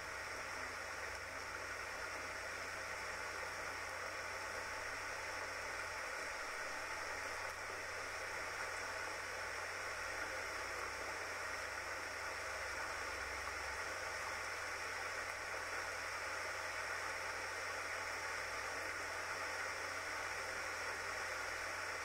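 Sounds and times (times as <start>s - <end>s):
light rain hissing: 0.0s - 22.0s.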